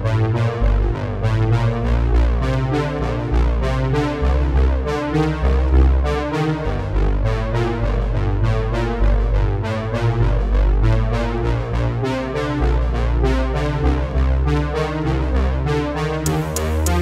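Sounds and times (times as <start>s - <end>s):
keyboard chords over bass line: 0.0s - 17.0s.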